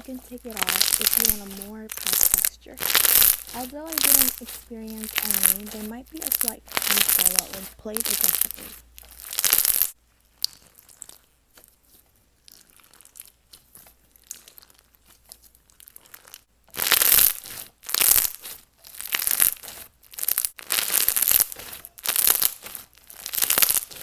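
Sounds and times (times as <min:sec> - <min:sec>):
slime squished by hand: 0:00.0 - 0:24.0.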